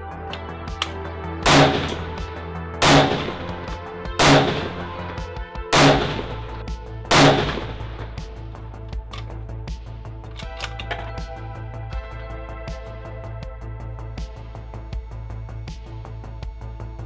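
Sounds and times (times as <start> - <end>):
background music sustained tones: 0.0 - 17.0.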